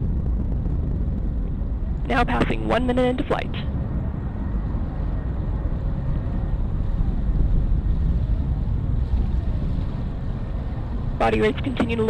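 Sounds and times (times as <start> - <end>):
rocket engine rumble: 0.0 - 12.0.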